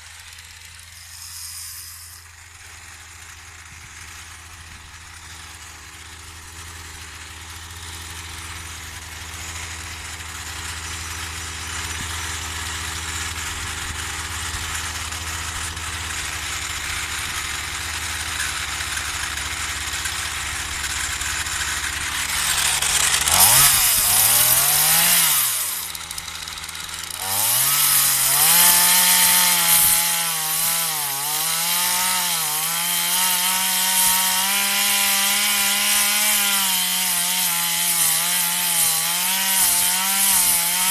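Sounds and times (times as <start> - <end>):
chainsaw cutting wood: 0.0 - 40.9
chainsaw idling and revving: 0.0 - 40.9.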